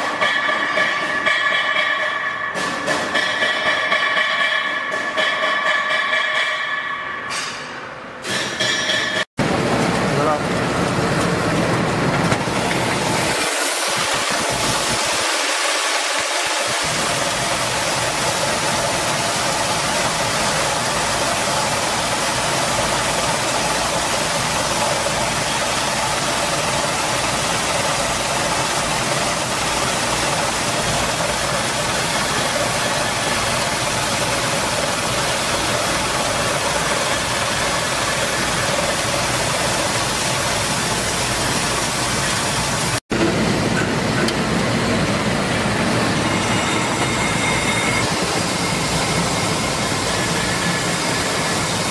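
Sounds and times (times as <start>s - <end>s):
grinding machine running: 8.7s - 51.9s.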